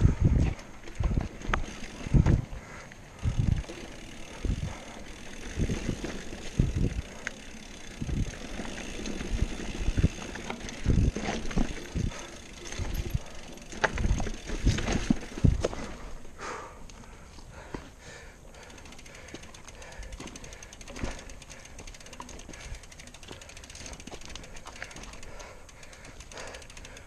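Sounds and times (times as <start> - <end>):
tyre and drivetrain noise: 0.0 - 27.0
mountain bike clattering over rocks: 0.2 - 2.5, 3.2 - 16.2, 18.6 - 27.0.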